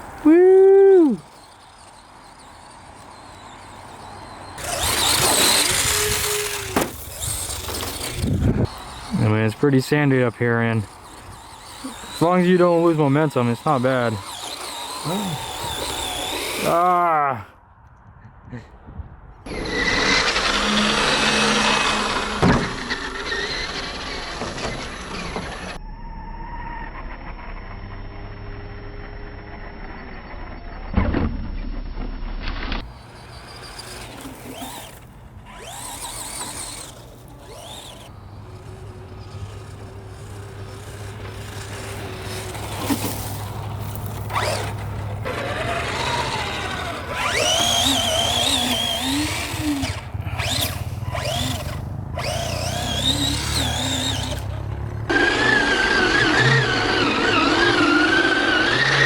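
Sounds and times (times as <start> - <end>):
electric motor whining: 0.0 - 17.1, 19.5 - 25.8, 32.8 - 59.0.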